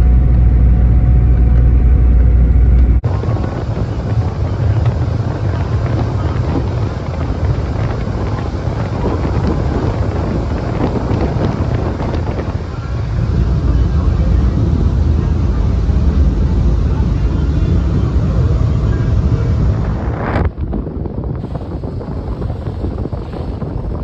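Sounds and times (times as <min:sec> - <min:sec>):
boat engine rumble: 0:00.0 - 0:24.0
wind on microphone: 0:00.0 - 0:24.0
rush of wind and water: 0:02.2 - 0:24.0.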